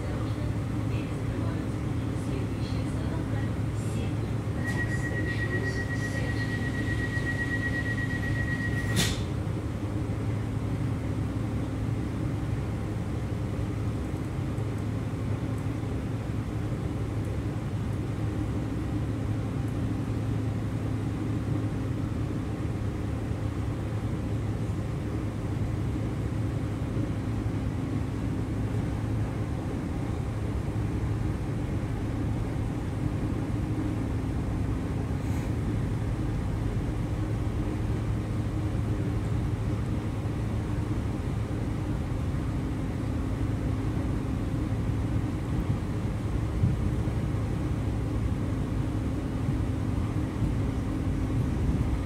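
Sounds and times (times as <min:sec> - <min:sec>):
electric train rumble and hum: 0:00.0 - 0:52.0.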